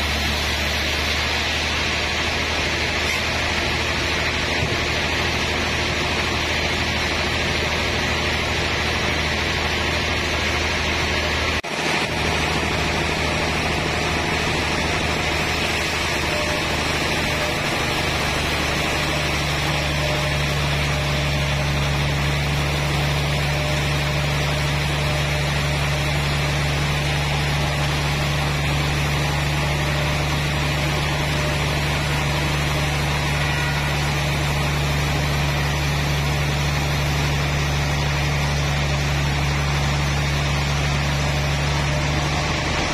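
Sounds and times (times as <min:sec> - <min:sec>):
band saw cutting log: 0:00.0 - 0:42.9.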